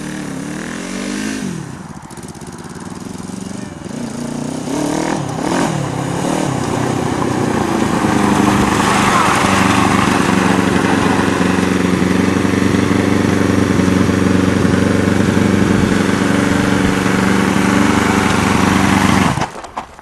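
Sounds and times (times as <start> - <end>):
motorcycle engine idling: 1.6 - 19.4.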